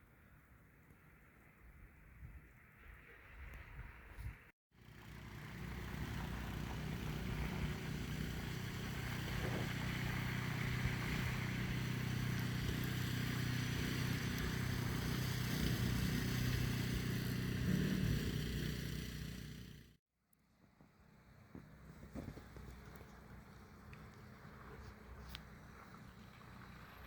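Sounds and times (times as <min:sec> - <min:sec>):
engine running with low hum: 0:04.8 - 0:27.0.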